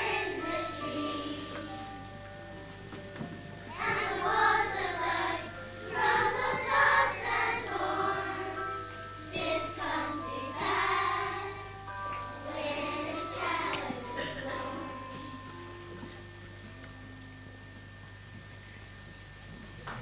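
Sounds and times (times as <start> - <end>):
children's choir singing: 0.0 - 17.0
faint low hum: 0.0 - 20.0.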